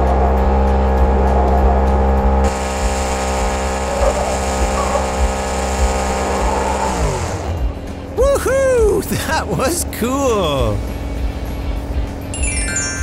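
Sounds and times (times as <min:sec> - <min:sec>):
truck engine at high revs: 0:00.0 - 0:12.4.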